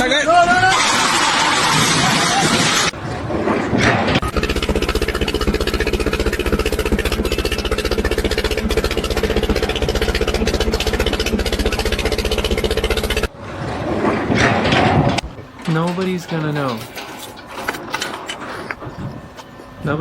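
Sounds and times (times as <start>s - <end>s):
engine-driven machine pulsing: 0.6s - 20.0s.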